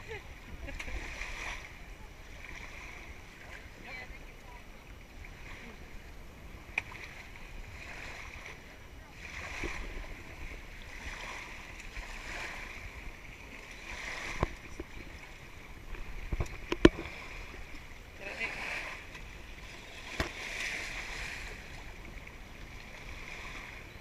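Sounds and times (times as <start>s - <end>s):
wind rumbling on microphone: 0.0s - 24.0s
water splashing around wading feet: 0.1s - 4.1s, 6.6s - 23.9s.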